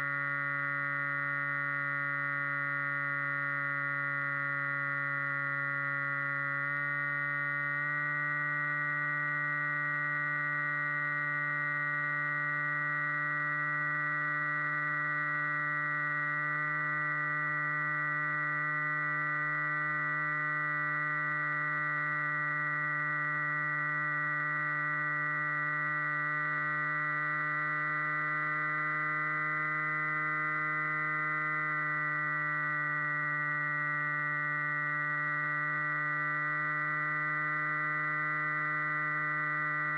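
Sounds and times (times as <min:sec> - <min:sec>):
model aircraft motor and propeller hum: 0:00.0 - 0:39.9.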